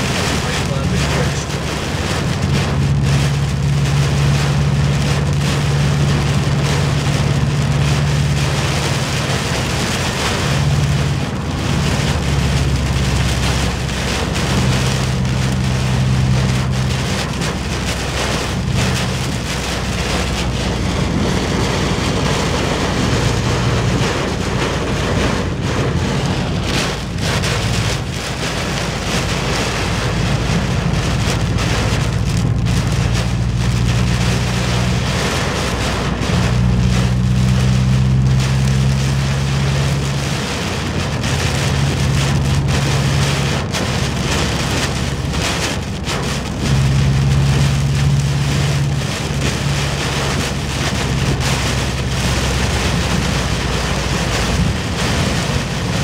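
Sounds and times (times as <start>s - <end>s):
heavy rain on car roof: 0.0s - 56.0s
low road rumble: 0.0s - 56.0s.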